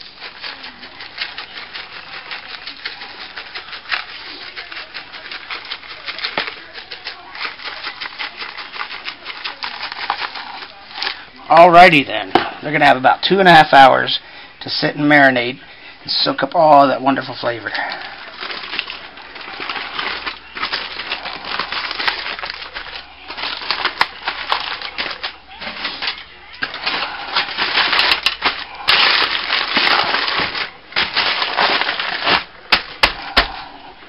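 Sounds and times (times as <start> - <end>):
aluminum foil crinkling: 0.0 - 11.9, 16.7 - 34.0.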